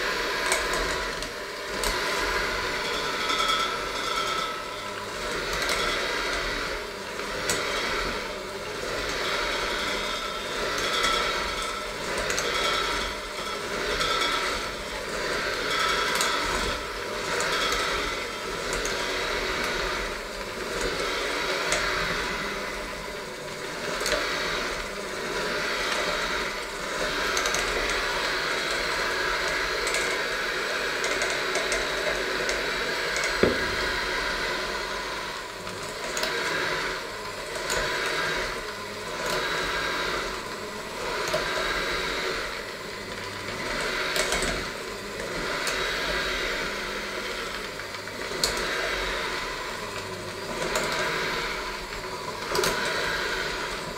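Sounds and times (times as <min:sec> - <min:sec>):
electric hand mixer running: 0:00.0 - 0:53.9.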